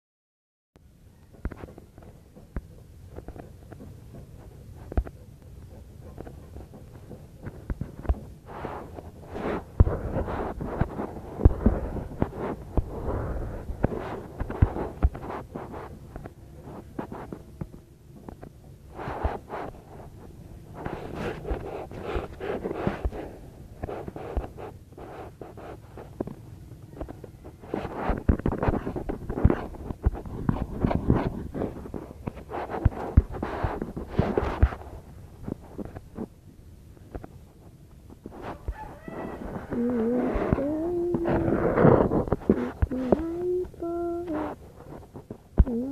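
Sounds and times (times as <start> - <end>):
rustling of craft materials: 1.2 - 45.9.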